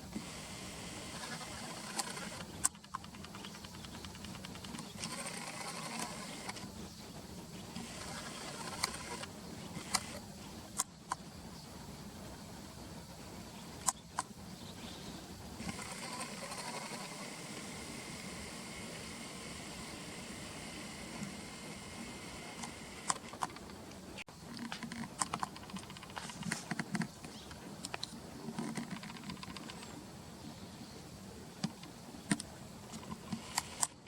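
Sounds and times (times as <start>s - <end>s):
distant traffic hum: 0.0s - 34.0s.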